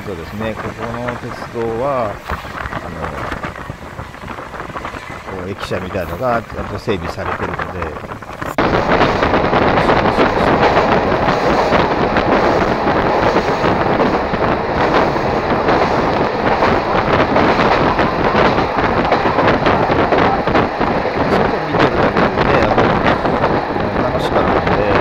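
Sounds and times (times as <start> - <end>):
wheels on rail: 0.0 - 25.0
wind rushing: 0.0 - 25.0.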